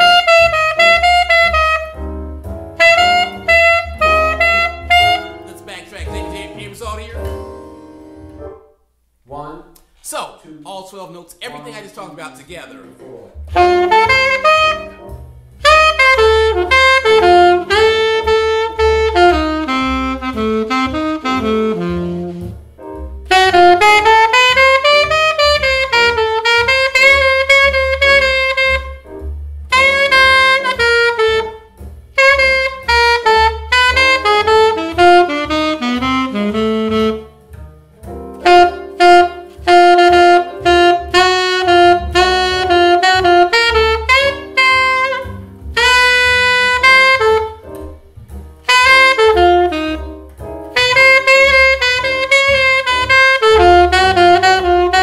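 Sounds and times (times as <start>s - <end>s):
saxophone jazz solo: 0.0s - 8.6s, 13.3s - 55.0s.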